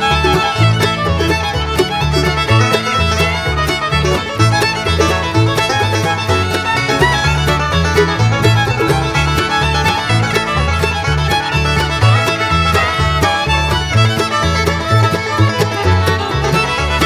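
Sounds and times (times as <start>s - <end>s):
bluegrass instrumental music: 0.0s - 17.0s.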